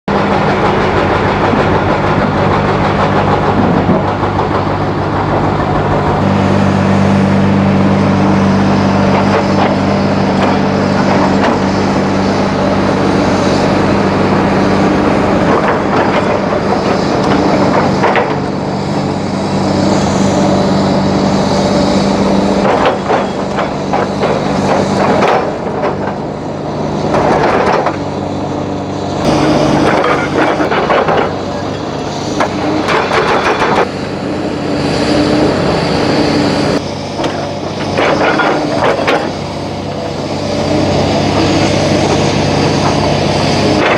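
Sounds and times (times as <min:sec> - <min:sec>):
excavator diesel engine droning: 0:00.0 - 0:43.9
rock and steel knocking and scraping: 0:00.1 - 0:06.4, 0:08.4 - 0:26.2, 0:27.0 - 0:28.1, 0:29.2 - 0:34.0, 0:36.7 - 0:43.9.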